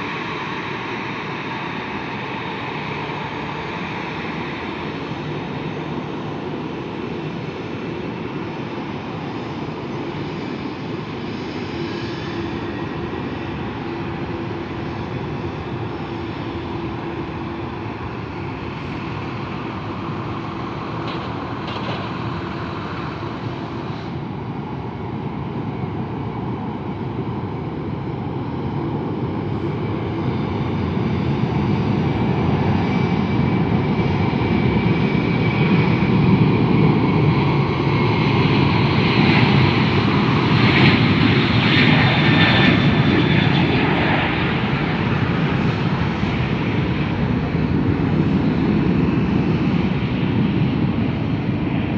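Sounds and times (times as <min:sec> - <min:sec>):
jet engines rushing: 0:00.0 - 0:51.9.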